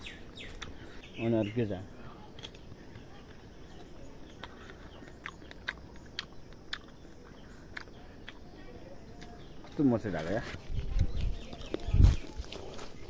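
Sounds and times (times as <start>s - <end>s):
person chewing crunchy fruit: 0.4s - 1.0s, 2.3s - 13.0s.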